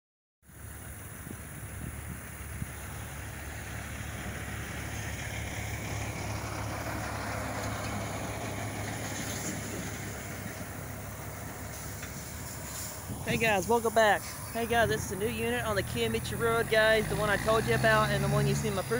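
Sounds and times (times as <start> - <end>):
diesel locomotive engine drone: 0.4 - 18.9
rushing noise: 0.5 - 18.9.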